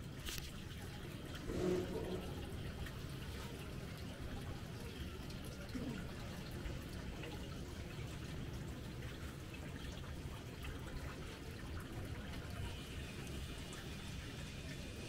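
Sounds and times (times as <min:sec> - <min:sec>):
running trickling water: 0:00.0 - 0:15.0
faint drips: 0:00.1 - 0:15.0.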